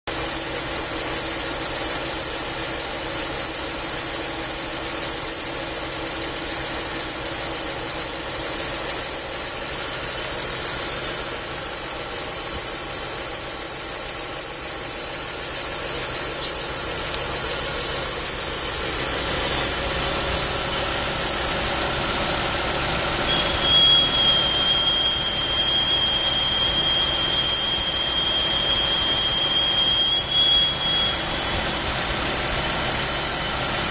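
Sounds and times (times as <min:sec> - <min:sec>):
high whistle-like tone: 0:05.8 - 0:33.8.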